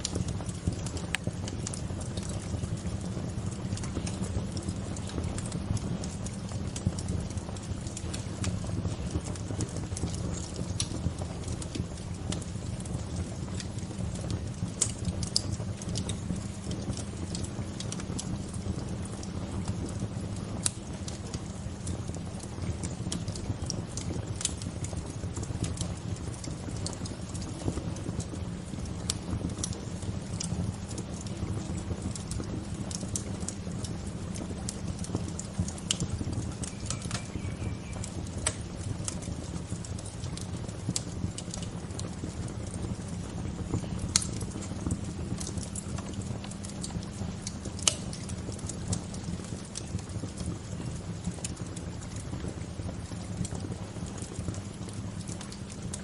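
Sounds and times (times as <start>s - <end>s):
bonfire pops and snaps: 0.0s - 56.0s
low rush of fire: 0.0s - 56.0s.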